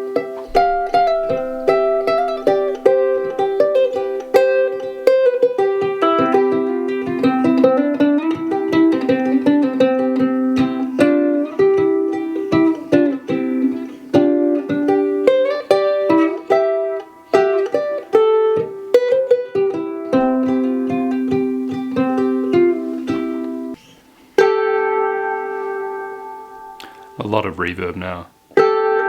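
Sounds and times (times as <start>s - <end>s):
ukulele plucked melody and chords: 0.0s - 23.8s, 24.4s - 29.0s.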